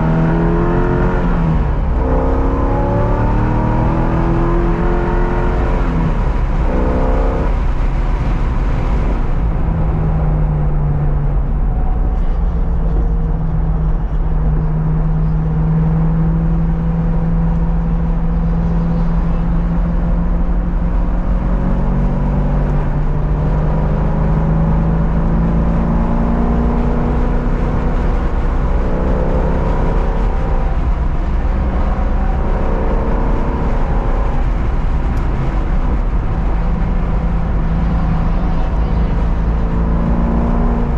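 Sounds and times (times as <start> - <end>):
race car engine revving: 0.0 - 40.9
road and wind noise: 0.0 - 40.9.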